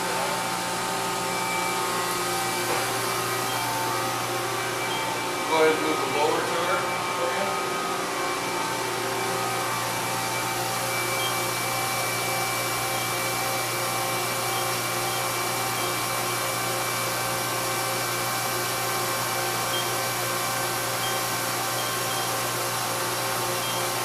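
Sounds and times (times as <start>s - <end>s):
machine whirring hum with tones: 0.0s - 24.0s.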